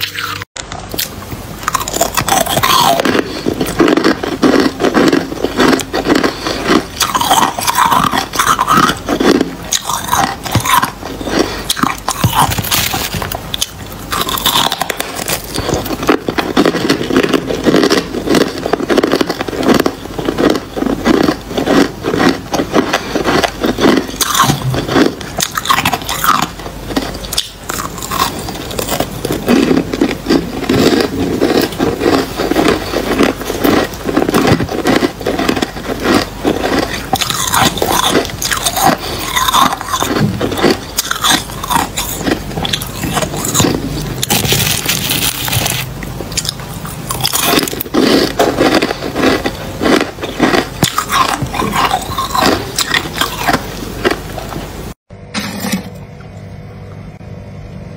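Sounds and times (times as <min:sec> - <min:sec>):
chewing crunchy frost: 0:00.0 - 0:54.7.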